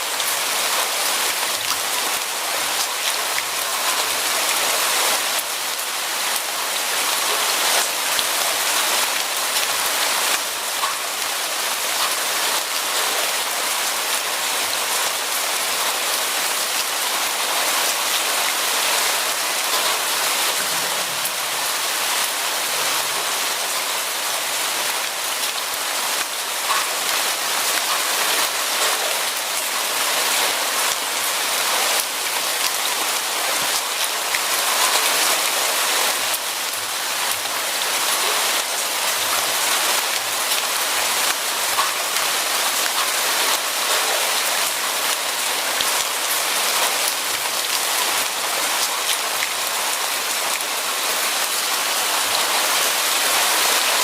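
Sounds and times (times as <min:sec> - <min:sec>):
steady rain on a surface: 0:00.0 - 0:54.0.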